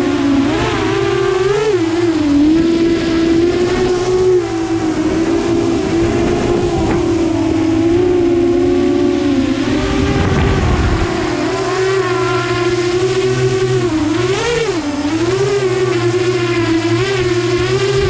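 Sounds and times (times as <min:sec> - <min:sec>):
drone propellers whining: 0:00.0 - 0:18.0
wind rumble: 0:00.0 - 0:18.0.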